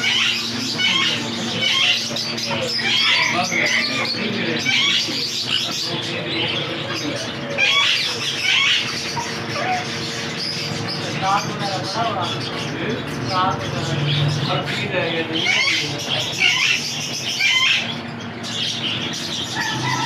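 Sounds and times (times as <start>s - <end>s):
caged birds chirping: 0.0s - 20.0s
steady low hum: 0.0s - 20.0s.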